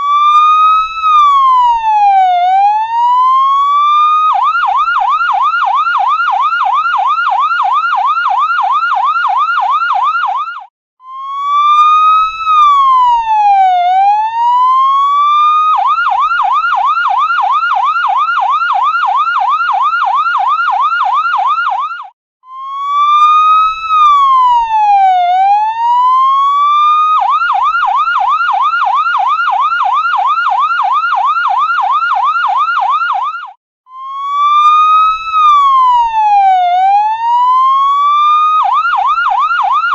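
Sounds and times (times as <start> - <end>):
ambulance siren yelp and wail: 0.0 - 39.9.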